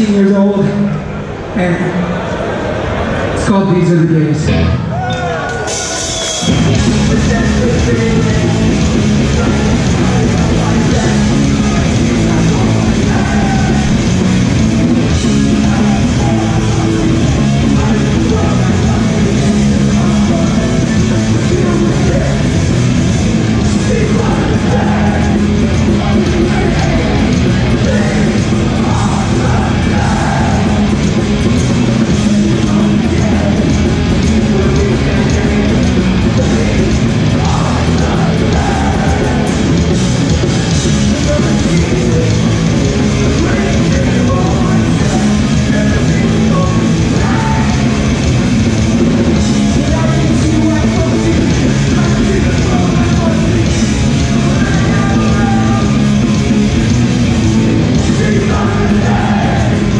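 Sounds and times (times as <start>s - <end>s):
punk band playing live: 4.4s - 59.9s
shouted vocals: 4.7s - 48.4s, 49.6s - 59.9s.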